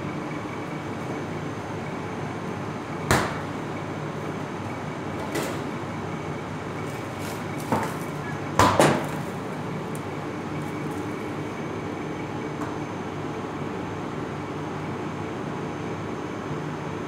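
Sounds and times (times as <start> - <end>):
kitchen machinery hum: 0.0 - 17.0.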